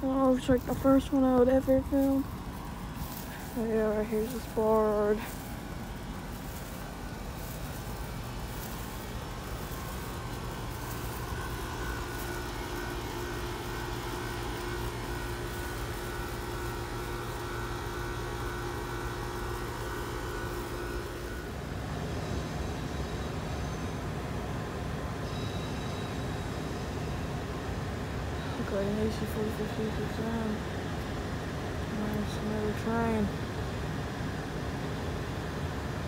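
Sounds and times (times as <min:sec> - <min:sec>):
air conditioner humming: 0:00.0 - 0:25.3, 0:26.2 - 0:36.0.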